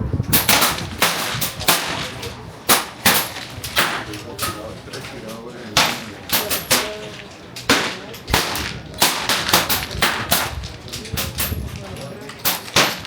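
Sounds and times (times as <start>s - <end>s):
air rifles firing: 0.3s - 13.0s.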